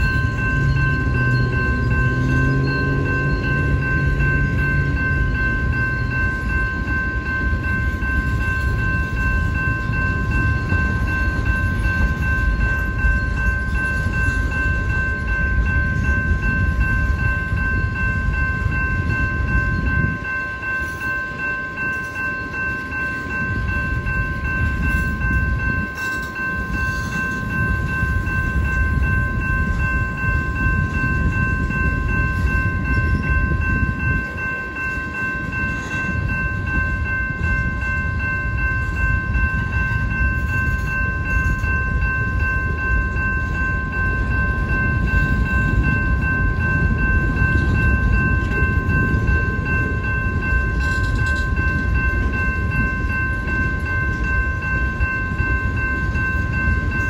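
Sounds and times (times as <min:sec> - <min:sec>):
crossing warning bell: 0:00.0 - 0:57.0
freight train wheels rumbling: 0:00.0 - 0:57.0.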